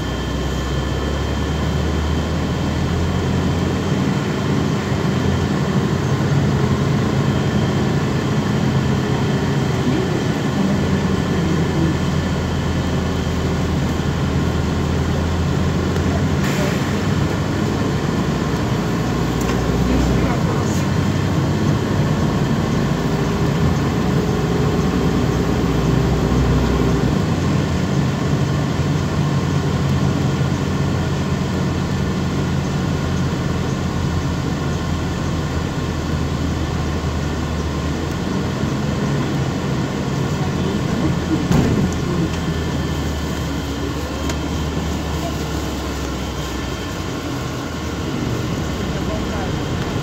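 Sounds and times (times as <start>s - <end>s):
bus engine: 0.0s - 50.0s
road noise: 0.0s - 50.0s.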